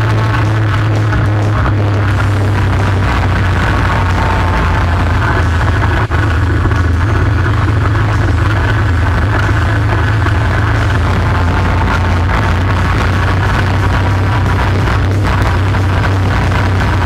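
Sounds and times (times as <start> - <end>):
quad bike engine droning: 0.0 - 17.0.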